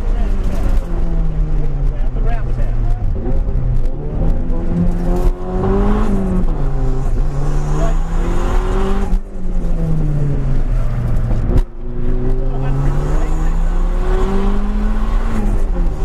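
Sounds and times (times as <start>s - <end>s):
car engine driven hard: 0.0s - 16.0s.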